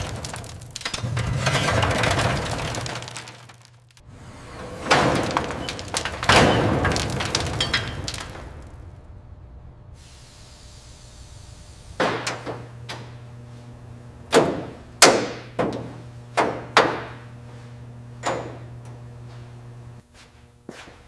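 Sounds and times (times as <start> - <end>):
steady low hum: 3.8 - 21.0.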